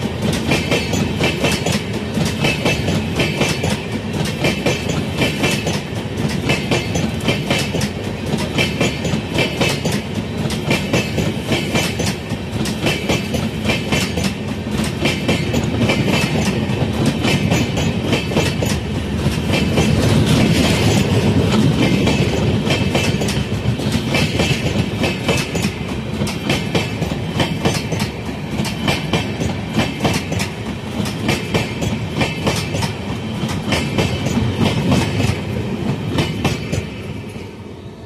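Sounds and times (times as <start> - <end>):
train wheels clacking over rail joints: 0.0 - 37.3
train rumble: 0.0 - 38.0.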